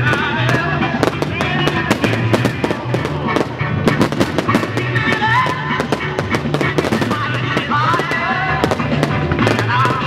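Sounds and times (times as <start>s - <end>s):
fireworks bangs and crackling: 0.0s - 10.0s
loud rock music: 0.0s - 10.0s.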